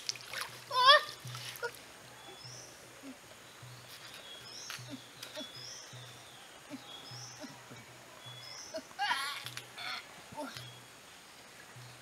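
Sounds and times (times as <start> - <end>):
forest stream: 0.0 - 12.0.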